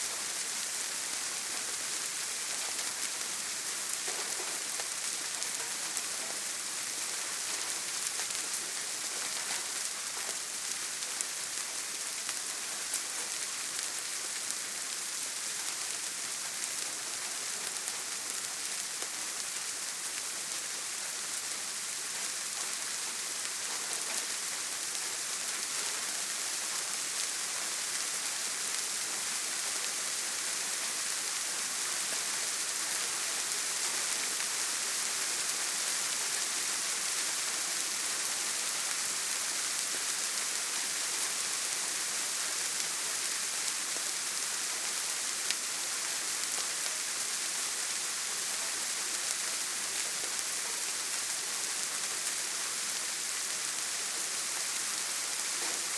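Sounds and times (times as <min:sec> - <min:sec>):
rain on a tin roof: 0:00.0 - 0:55.9.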